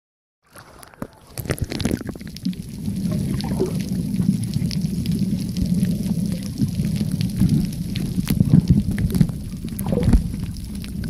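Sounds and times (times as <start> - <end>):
water splashing: 0.4 - 11.0
muffled underwater rumble: 0.6 - 11.0.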